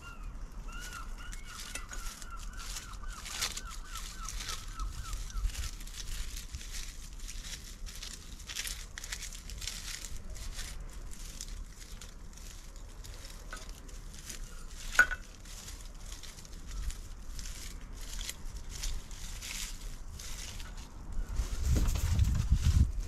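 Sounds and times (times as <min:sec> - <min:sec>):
rustling and crinkling strokes: 0:00.0 - 0:23.0.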